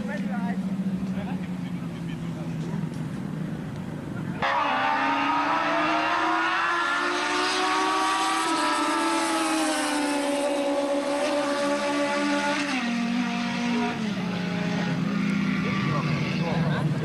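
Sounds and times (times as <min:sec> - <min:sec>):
motorcycle engines revving high: 0:00.0 - 0:17.0.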